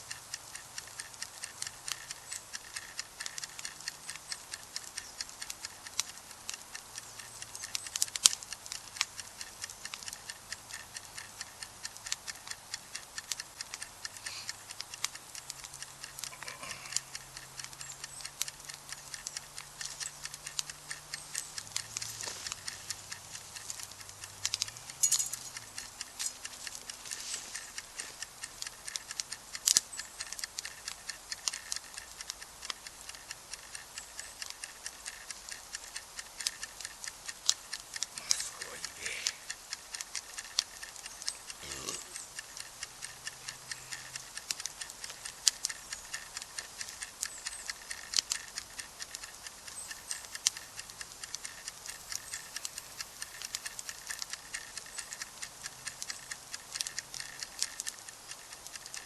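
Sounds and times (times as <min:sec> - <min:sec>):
campfire crackling and popping: 0:00.0 - 0:25.0, 0:25.6 - 0:59.0.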